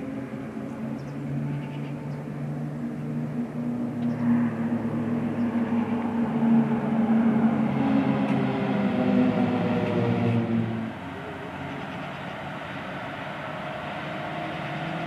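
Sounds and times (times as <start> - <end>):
propeller planes droning overhead: 0.0 - 15.0.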